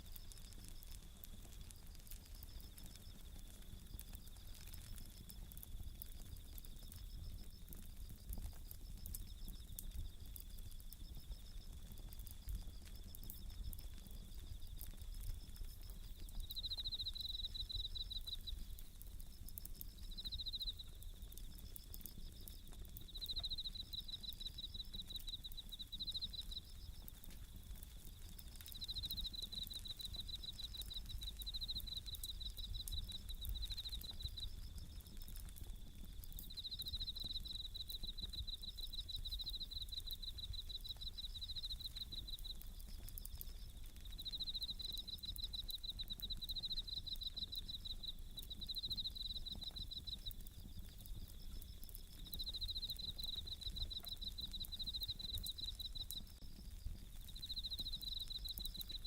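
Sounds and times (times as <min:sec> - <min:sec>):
campfire crackling: 0:00.0 - 0:59.0
crickets trilling: 0:00.0 - 0:59.0.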